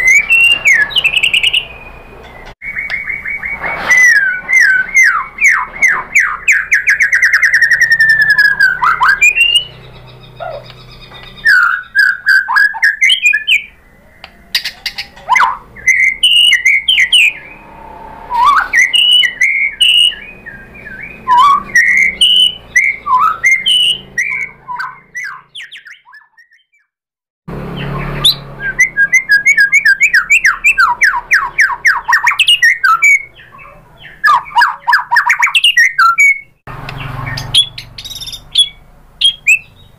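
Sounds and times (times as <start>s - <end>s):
songbird singing trills and whistles: 0.0s - 17.7s, 18.3s - 26.9s, 27.8s - 39.9s.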